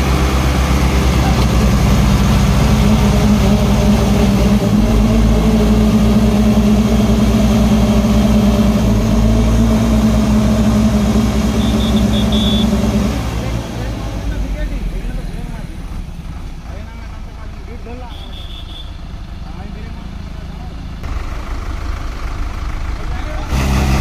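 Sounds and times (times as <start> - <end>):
tractor engines under heavy load: 0.0 - 24.0.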